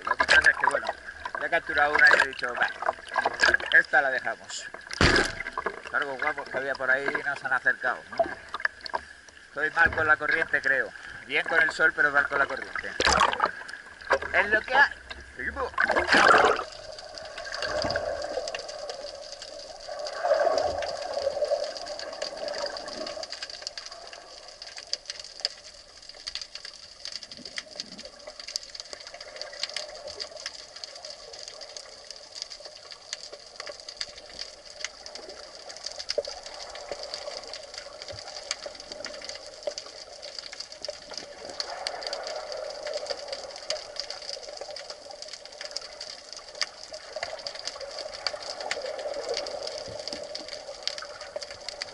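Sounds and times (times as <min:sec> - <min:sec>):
faint crackle of tiny clicks: 0:00.0 - 0:51.9
rushing water movement: 0:00.0 - 0:51.9.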